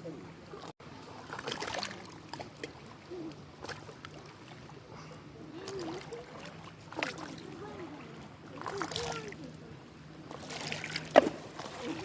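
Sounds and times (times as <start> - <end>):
faint distant voices: 0.0 - 12.0
small waves lapping on shore: 0.0 - 12.0.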